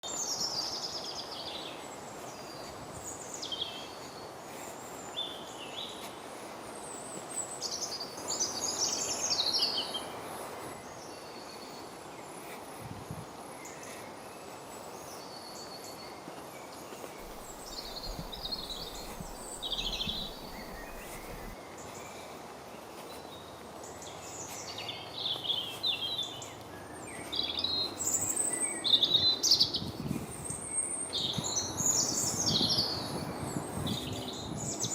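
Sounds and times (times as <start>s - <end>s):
small birds singing: 0.0s - 34.9s
steady background hiss: 0.1s - 29.6s.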